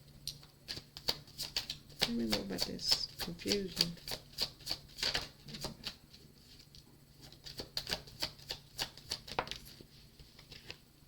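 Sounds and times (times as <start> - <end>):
cards being shuffled: 0.3 - 10.8.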